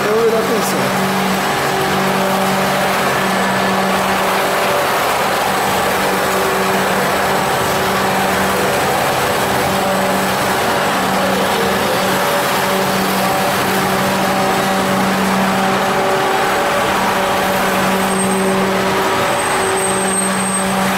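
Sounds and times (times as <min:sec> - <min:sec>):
machine hum: 0:00.0 - 0:20.9.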